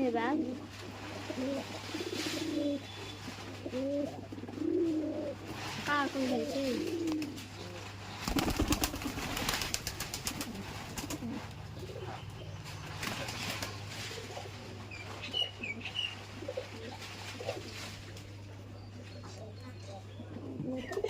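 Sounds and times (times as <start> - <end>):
pigeons cooing: 0.0 - 21.0
steady low hum: 0.0 - 21.0.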